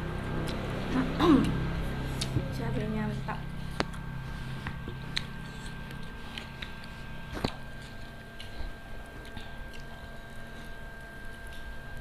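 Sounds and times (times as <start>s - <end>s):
people chewing food: 0.0s - 2.7s, 3.5s - 12.0s
steady faint hum: 0.0s - 12.0s.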